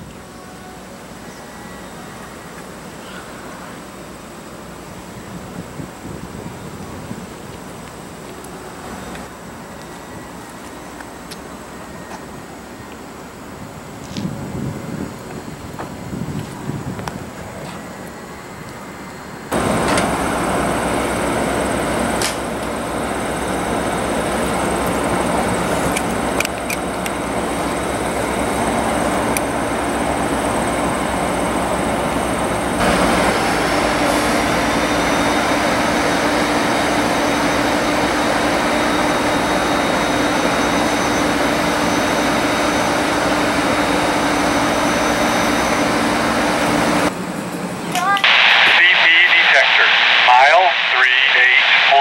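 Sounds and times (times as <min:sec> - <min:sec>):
diesel locomotive engine running: 0:00.0 - 0:52.0
locomotive hum with high whine: 0:00.0 - 0:52.0.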